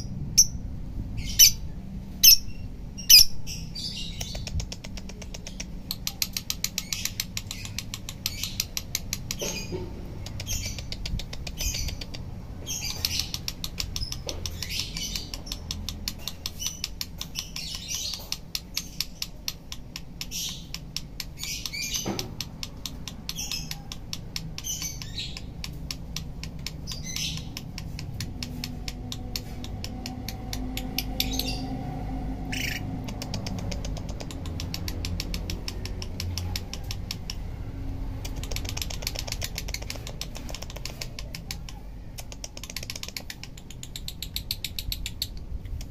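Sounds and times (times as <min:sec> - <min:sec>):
lovebird chattering trill: 0:00.0 - 0:31.7, 0:32.5 - 0:37.4, 0:38.2 - 0:45.8.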